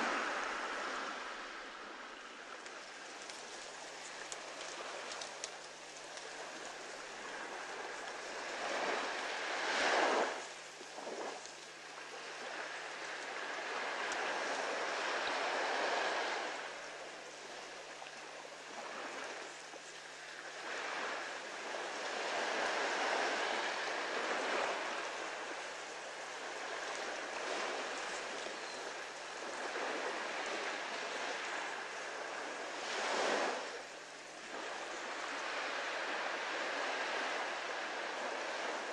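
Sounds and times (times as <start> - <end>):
surf washing onto beach: 0.0 - 38.9.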